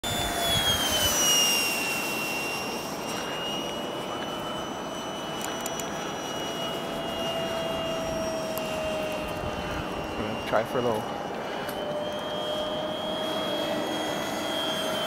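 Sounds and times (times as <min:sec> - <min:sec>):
model jet motor whine: 0:00.0 - 0:15.0.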